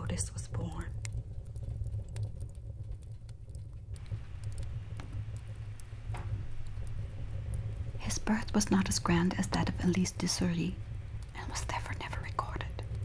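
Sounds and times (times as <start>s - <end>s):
light crackling ticks: 0.0s - 13.0s
soft rain-like hiss: 0.0s - 13.0s
steady low rumble: 0.0s - 13.0s.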